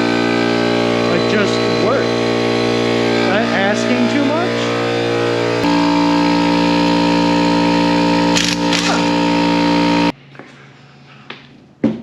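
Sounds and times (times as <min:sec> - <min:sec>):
air compressor humming: 0:00.0 - 0:10.2.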